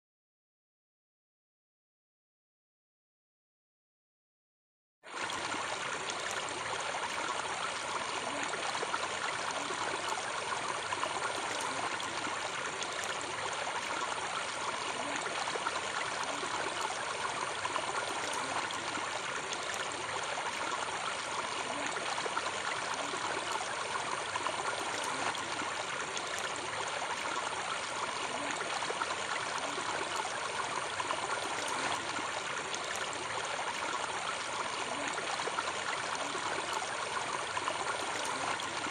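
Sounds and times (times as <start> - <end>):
rushing water: 5.1 - 38.9.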